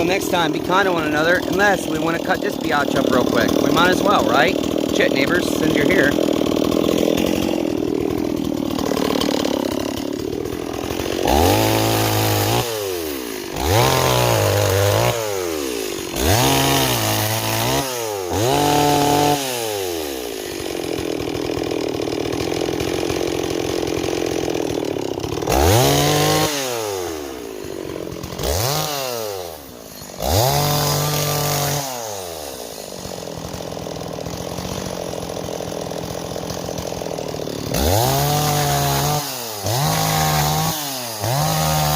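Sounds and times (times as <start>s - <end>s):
chainsaw revving and idling: 0.0s - 41.9s.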